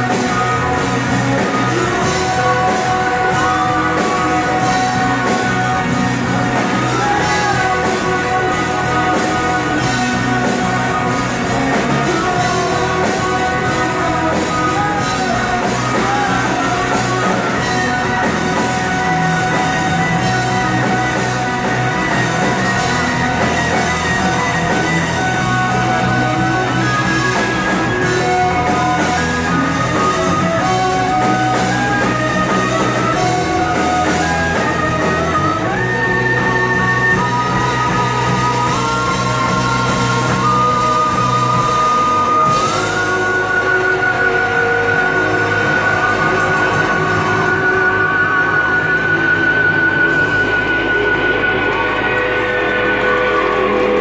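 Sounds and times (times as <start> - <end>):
drum kit: 0.0 - 54.0
electric guitars: 0.0 - 54.0
live rock band playing: 0.0 - 54.0.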